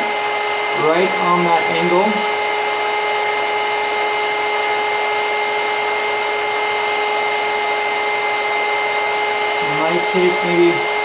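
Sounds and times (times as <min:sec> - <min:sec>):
heat gun blowing air: 0:00.0 - 0:11.0.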